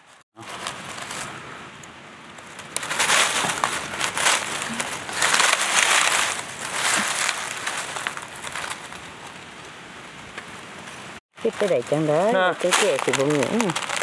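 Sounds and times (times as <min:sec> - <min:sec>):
dry leaves crunching: 0:00.0 - 0:14.0.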